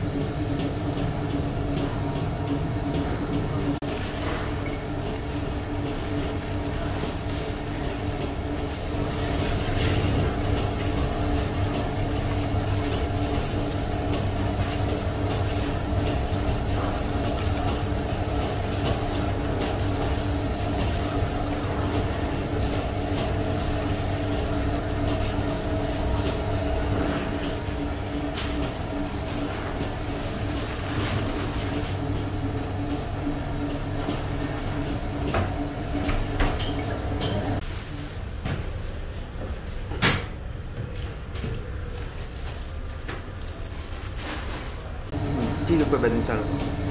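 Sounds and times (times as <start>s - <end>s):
machinery humming and rumbling: 0.0s - 46.9s.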